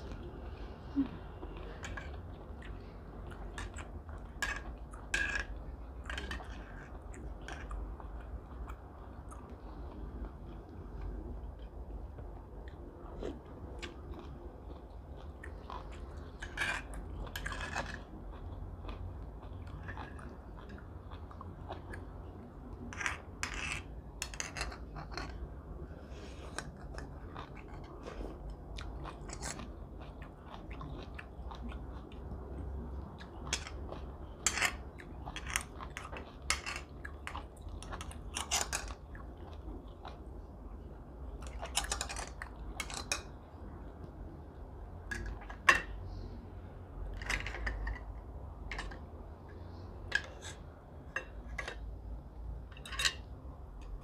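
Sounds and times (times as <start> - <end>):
person chewing and eating: 0.0 - 54.0.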